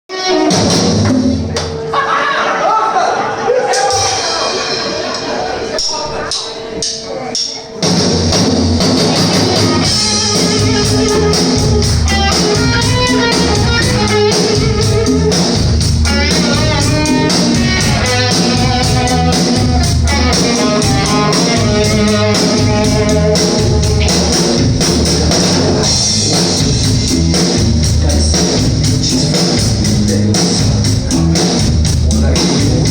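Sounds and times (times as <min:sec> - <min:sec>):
rock music with guitar and drums: 0:00.1 - 0:01.9, 0:07.8 - 0:32.9.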